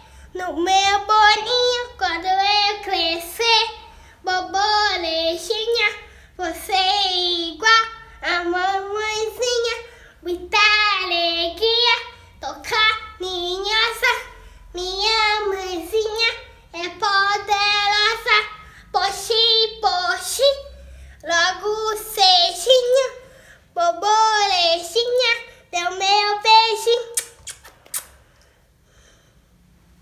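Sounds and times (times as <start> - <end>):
boy singing: 0.0 - 27.2.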